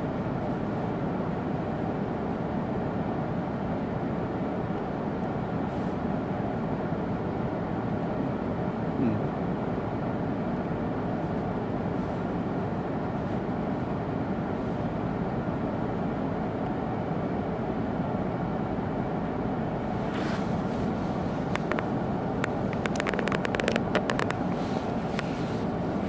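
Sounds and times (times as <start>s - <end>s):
train running noise inside carriage: 0.0s - 26.0s.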